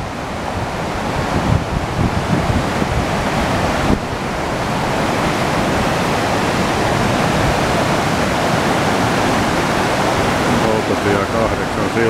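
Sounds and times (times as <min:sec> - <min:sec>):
river rapids rushing: 0:00.0 - 0:12.0
wind buffeting microphone: 0:00.0 - 0:12.0.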